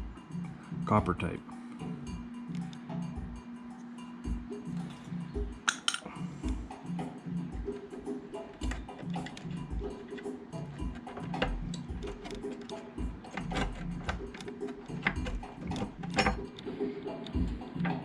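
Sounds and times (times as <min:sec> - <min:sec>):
background music with bass line: 0:00.0 - 0:18.0.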